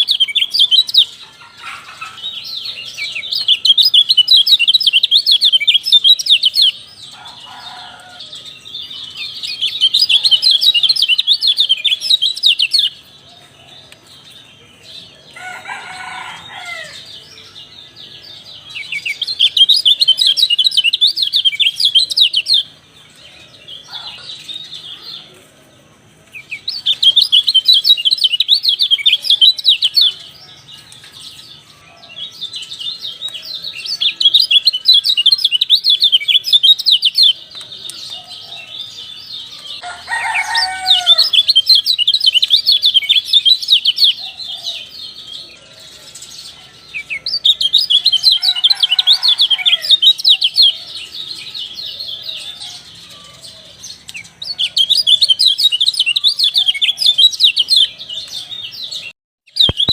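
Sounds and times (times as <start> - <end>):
songbird trilling chirps: 0.0 - 59.9.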